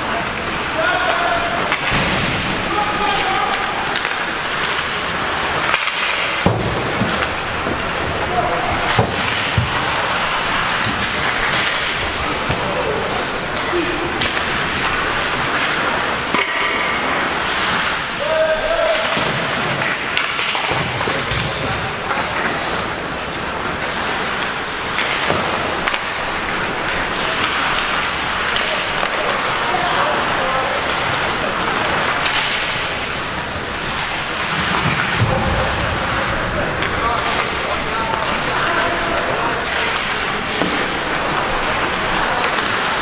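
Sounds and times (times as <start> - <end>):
hockey sticks and puck clacking: 0.0 - 43.0
skates scraping on ice: 0.0 - 43.0.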